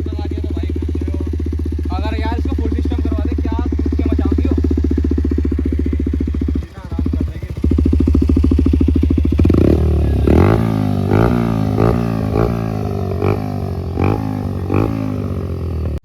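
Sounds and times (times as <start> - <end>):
motorcycle revving: 0.0 - 16.0.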